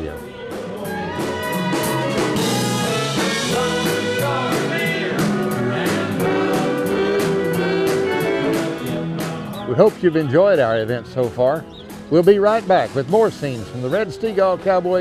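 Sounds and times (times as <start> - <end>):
western swing dance band music: 0.0 - 15.0.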